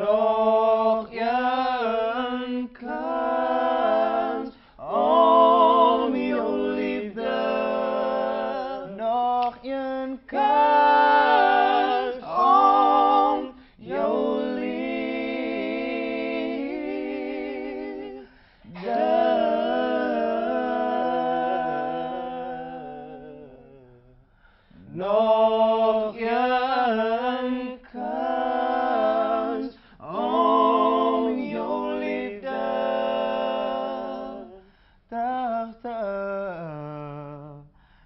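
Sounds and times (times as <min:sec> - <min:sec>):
men singing a cappella harmony: 0:00.0 - 0:38.0.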